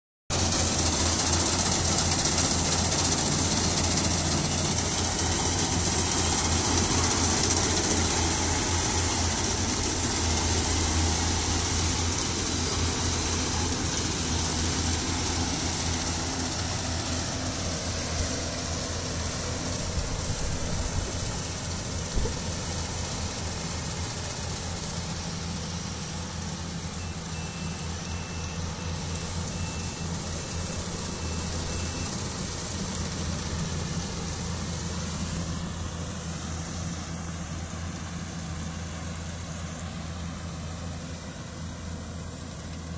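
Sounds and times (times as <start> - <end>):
combine harvester diesel engine: 0.3 - 42.9.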